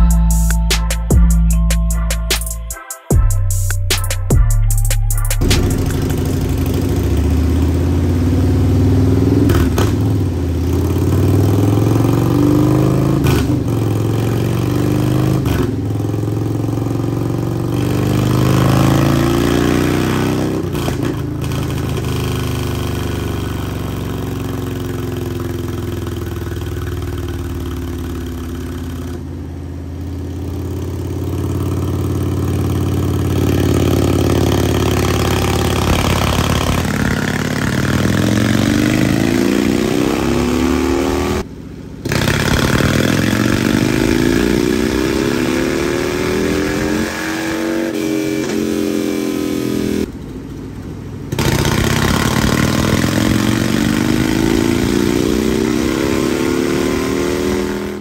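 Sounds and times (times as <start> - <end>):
motorcycle engine revving: 5.4 - 58.0.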